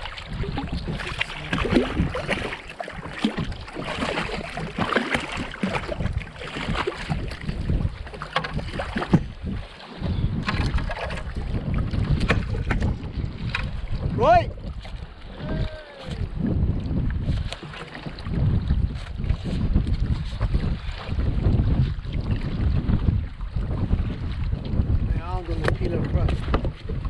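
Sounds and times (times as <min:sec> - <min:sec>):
water lapping against kayak hull: 0:00.0 - 0:27.0
wind buffeting microphone: 0:00.0 - 0:27.0.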